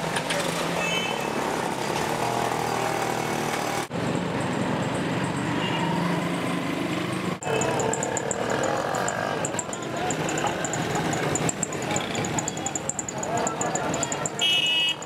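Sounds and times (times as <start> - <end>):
car and motorcycle engines: 0.0 - 15.0.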